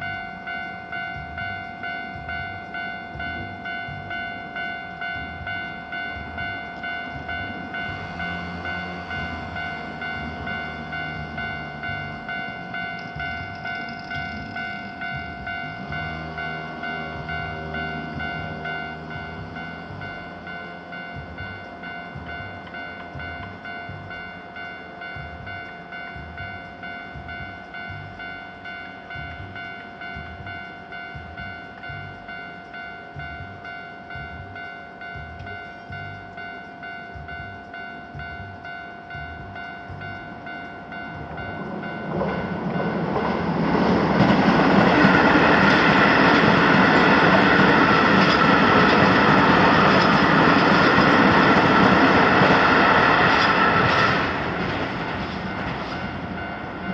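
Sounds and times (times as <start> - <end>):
electric train passing: 0.0 - 56.9
level crossing bell ringing: 0.0 - 56.9.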